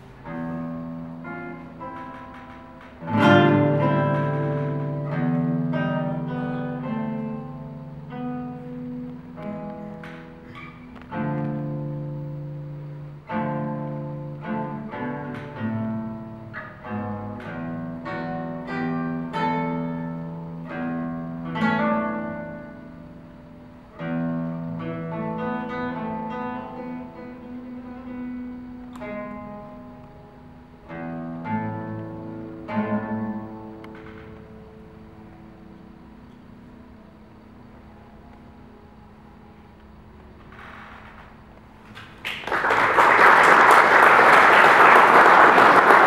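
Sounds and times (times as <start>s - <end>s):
fingerstyle classical guitar: 0.0s - 42.4s.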